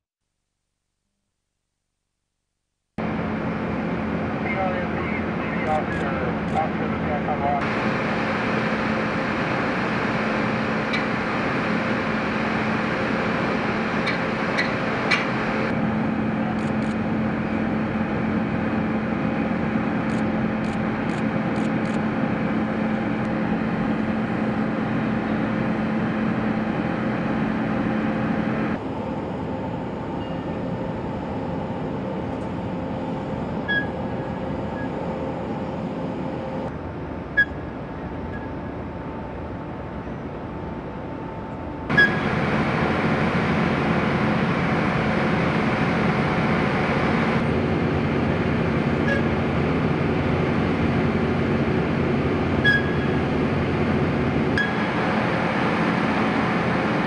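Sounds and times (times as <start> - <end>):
machinery hum: 3.0 - 57.0.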